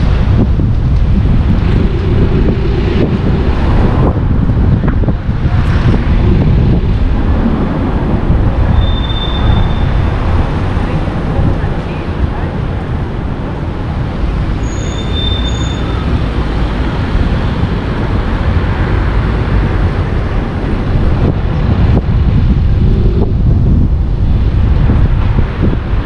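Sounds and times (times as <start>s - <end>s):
road noise rumble: 0.0s - 26.0s
wind buffeting microphone: 0.0s - 26.0s.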